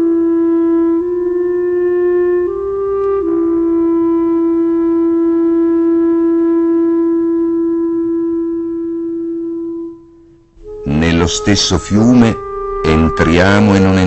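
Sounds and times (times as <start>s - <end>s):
woodwind holding long note: 0.0s - 14.0s.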